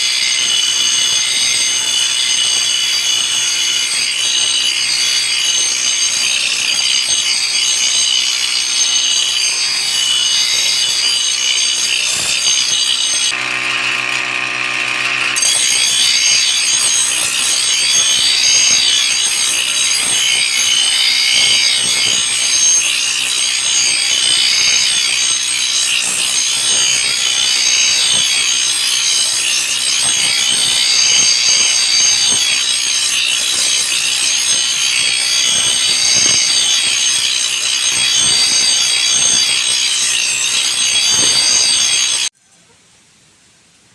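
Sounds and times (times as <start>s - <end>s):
grinder motor hum: 0.0s - 42.3s
steel grinding on grinder wheel: 0.0s - 42.3s.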